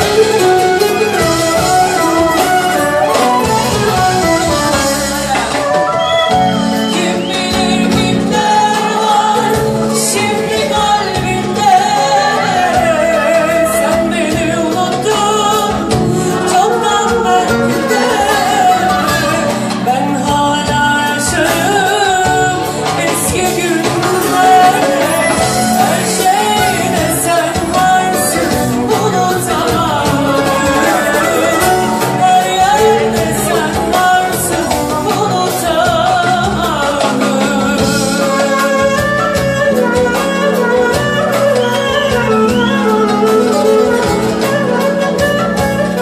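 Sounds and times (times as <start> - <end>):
live band playing: 0.0 - 46.0
woman singing: 0.0 - 46.0.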